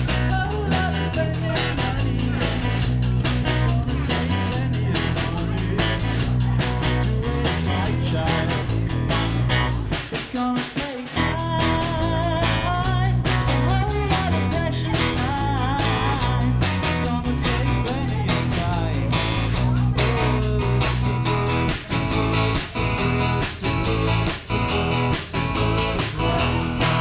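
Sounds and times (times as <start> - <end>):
electric guitar: 0.0 - 27.0
lead singer: 0.0 - 27.0
second voice singing along: 0.0 - 27.0
strummed acoustic guitar: 0.0 - 27.0.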